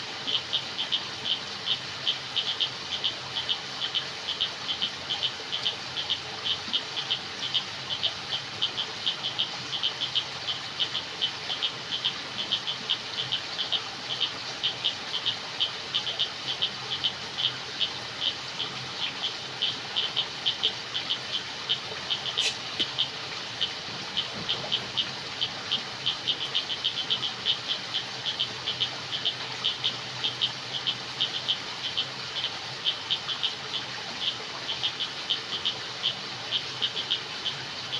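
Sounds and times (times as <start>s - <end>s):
frogs and insects chirping: 0.0s - 37.9s
steady hiss: 0.0s - 37.9s.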